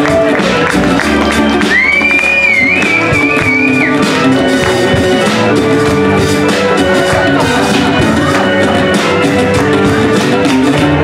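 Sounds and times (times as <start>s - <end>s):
live band instrumental: 0.0s - 11.0s
steady drum beat: 0.0s - 11.0s.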